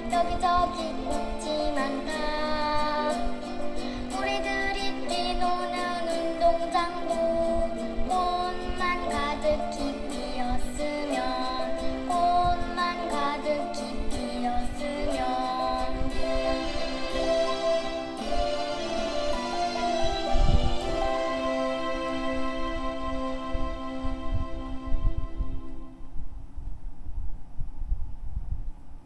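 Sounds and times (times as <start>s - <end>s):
person singing: 0.0s - 25.8s
children's song: 0.0s - 26.0s.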